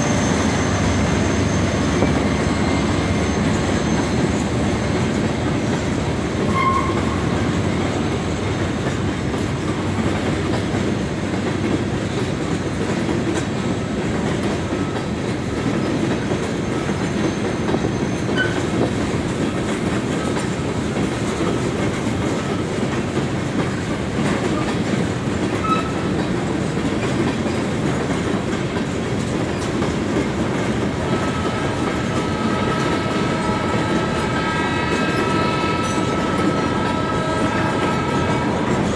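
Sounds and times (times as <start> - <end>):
train wheel squeals: 0.0 - 10.0, 12.2 - 38.9
freight train wheels clacking: 0.0 - 38.9.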